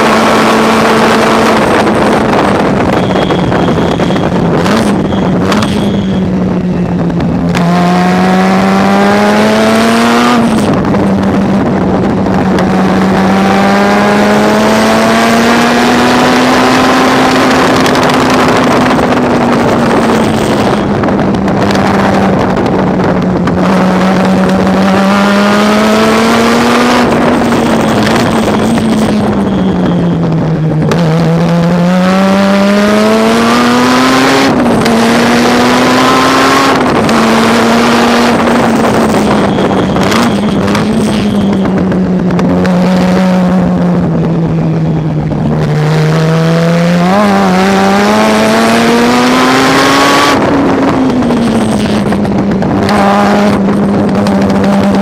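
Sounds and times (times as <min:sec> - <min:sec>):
race engine revving high: 0:00.0 - 0:55.0.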